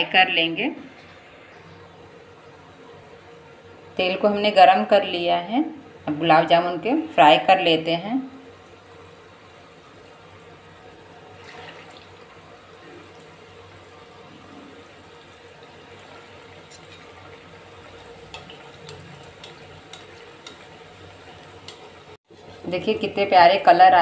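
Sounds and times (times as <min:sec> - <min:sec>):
oil bubbling and sizzling: 0:00.8 - 0:04.5, 0:05.8 - 0:23.6.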